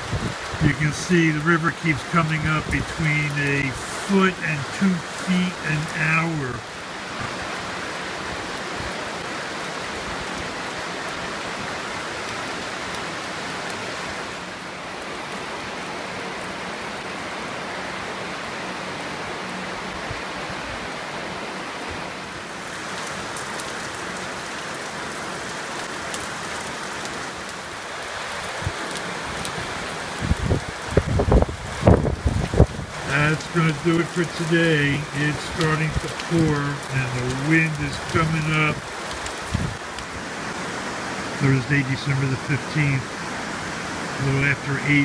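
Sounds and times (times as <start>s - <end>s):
heavy rain hissing: 0.0s - 45.0s
river rushing: 0.0s - 45.0s.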